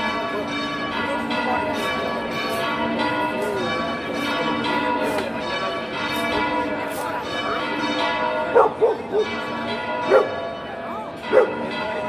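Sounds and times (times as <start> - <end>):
church bells ringing a peal: 0.0 - 12.0.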